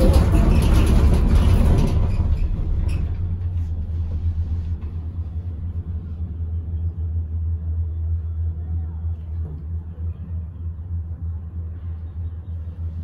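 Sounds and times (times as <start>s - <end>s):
cable car low rumble: 0.0s - 13.0s.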